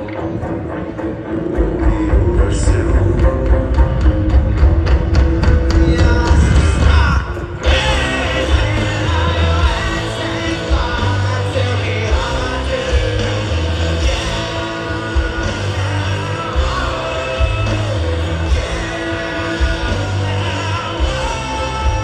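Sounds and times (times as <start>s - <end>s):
live rock band playing: 0.0s - 22.0s
person singing: 1.3s - 4.4s, 5.4s - 22.0s.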